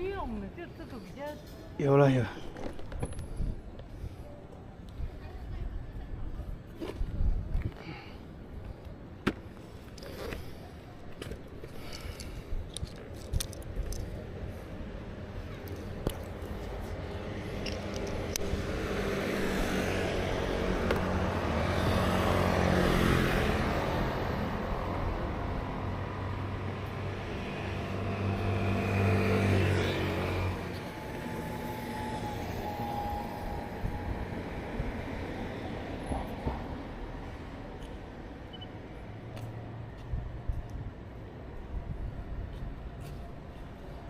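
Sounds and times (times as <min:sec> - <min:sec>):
vehicles passing by: 0:00.0 - 0:44.0.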